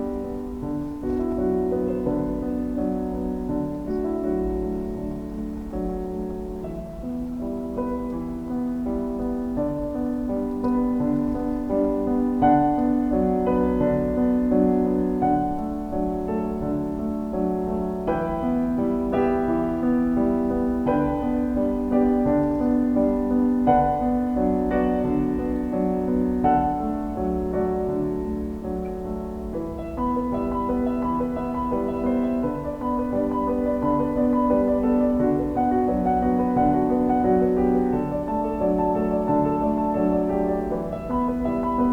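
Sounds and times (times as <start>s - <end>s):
slow gentle piano music: 0.0s - 41.9s.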